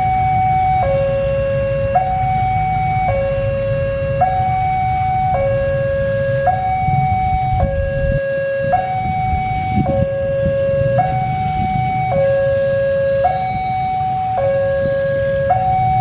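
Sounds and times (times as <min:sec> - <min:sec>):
diesel locomotive rumble: 0:00.0 - 0:16.0
two-tone railway warning alarm: 0:00.0 - 0:16.0.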